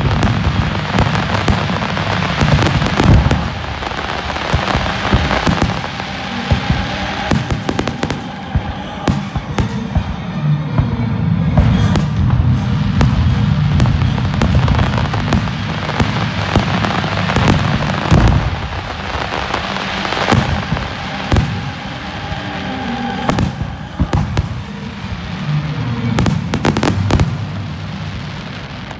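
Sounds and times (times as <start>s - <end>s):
fireworks crackling: 0.0s - 28.9s.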